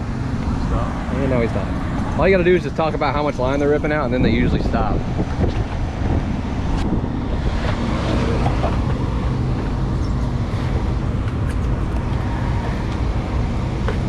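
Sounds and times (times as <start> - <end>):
outboard motors rumbling: 0.0 - 14.0.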